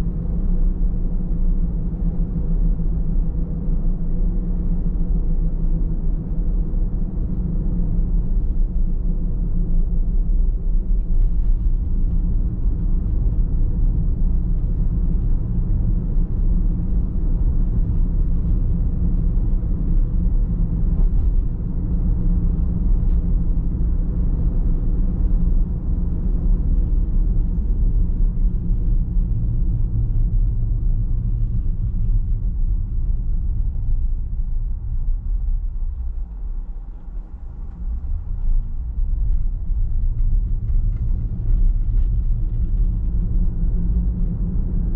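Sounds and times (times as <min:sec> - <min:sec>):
car driving on road: 0:05.1 - 0:44.9.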